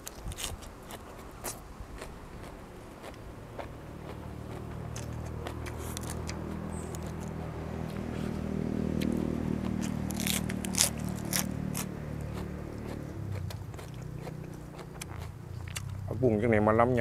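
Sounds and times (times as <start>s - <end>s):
low hum: 0.0s - 16.1s
person biting and chewing: 0.0s - 16.1s.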